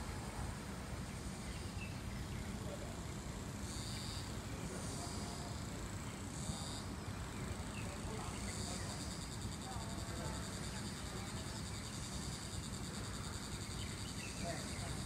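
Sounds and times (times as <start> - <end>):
insects buzzing chorus: 0.0 - 15.0.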